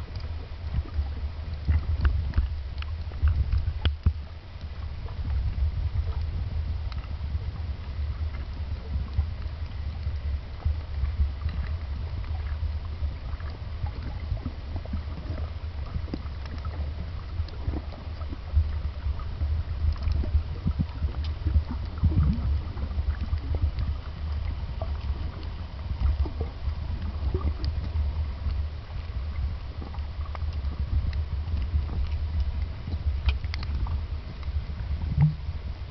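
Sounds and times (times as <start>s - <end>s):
faint clicks and crackles: 0.0s - 35.9s
low underwater rumble: 0.0s - 35.9s.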